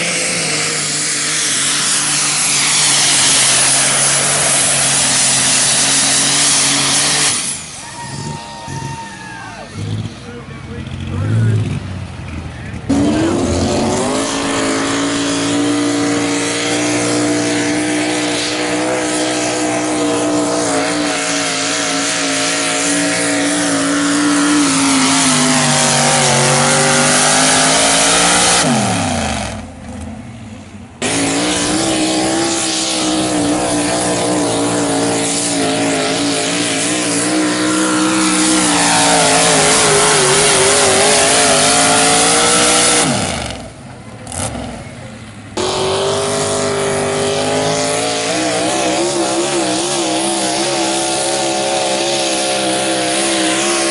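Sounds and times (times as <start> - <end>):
truck engines revving under full throttle: 0.0 - 53.9.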